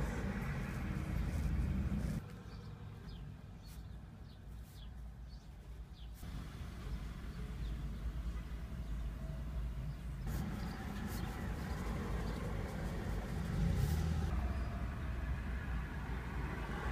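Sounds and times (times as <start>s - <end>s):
low rumble of distant traffic: 0.0s - 16.9s.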